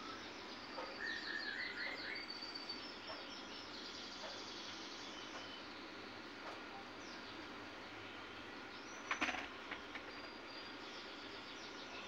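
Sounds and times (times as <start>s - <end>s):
small birds chirping: 0.0s - 12.0s
steady outdoor hiss: 0.0s - 12.0s.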